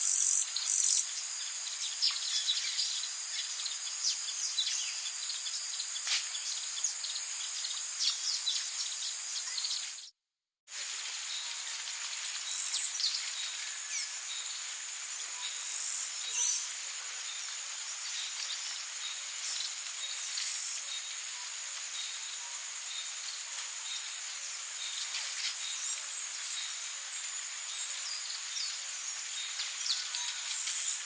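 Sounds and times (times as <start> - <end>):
high-pitched insect chorus: 0.0 - 10.0, 10.9 - 31.0.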